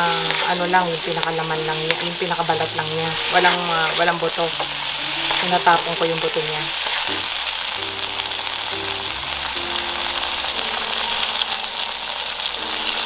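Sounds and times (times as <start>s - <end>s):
soft background music: 0.0s - 13.0s
vegetables sizzling in oil: 0.0s - 13.0s.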